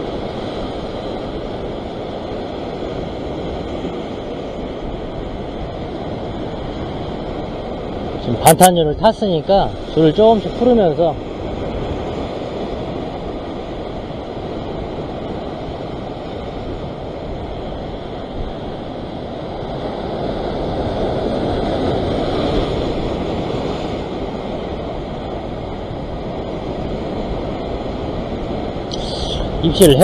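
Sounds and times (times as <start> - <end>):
ocean surf washing over rocks: 0.0 - 30.0
wind on microphone: 0.0 - 30.0.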